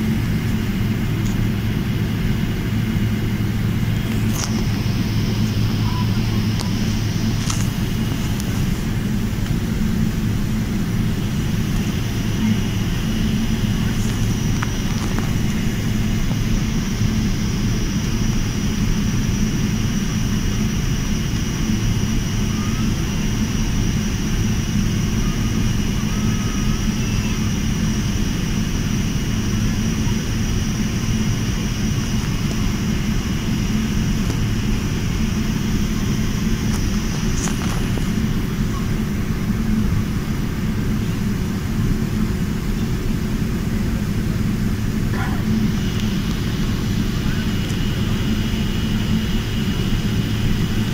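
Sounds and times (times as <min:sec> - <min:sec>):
jet engine high-pitched whine: 0:00.0 - 0:50.9
jet engine low rumble: 0:00.0 - 0:50.9.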